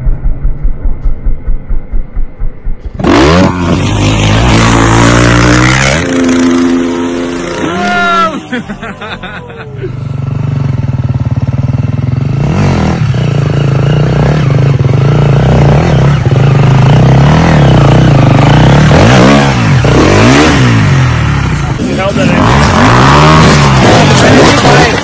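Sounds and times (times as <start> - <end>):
dirt bike engines revving: 2.9 - 11.6, 12.3 - 25.0.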